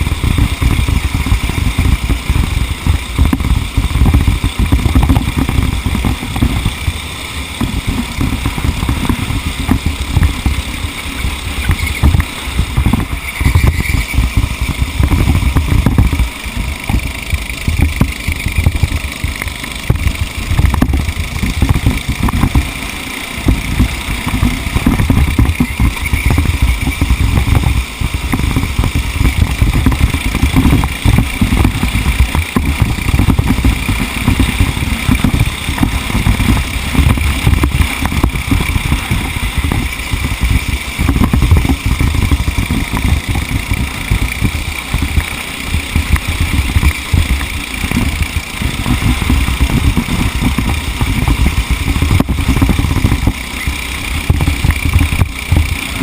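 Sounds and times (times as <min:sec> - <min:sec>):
racing kart engine running: 0:00.0 - 0:56.0.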